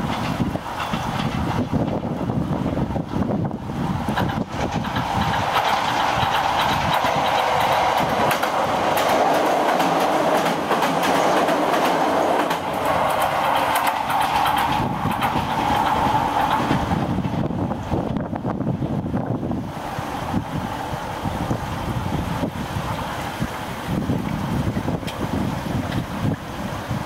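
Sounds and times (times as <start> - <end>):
wheels clattering over rail joints: 0.0 - 23.9
electric train passing on bridge: 0.0 - 27.0.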